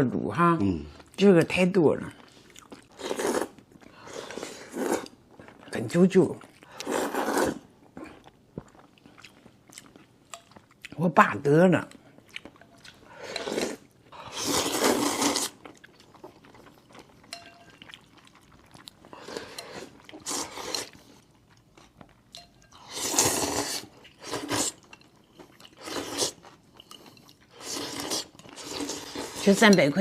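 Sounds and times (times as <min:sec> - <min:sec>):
person chewing noodles: 0:02.1 - 0:05.7, 0:06.4 - 0:11.0, 0:11.9 - 0:29.6.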